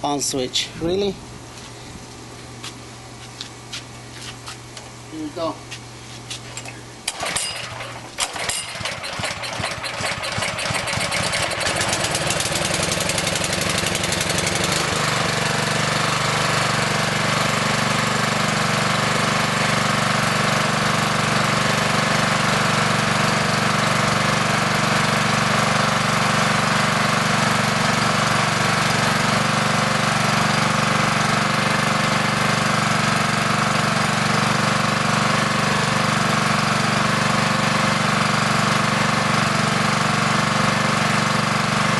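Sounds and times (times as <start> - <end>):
small engine starting and running: 6.6 - 41.9.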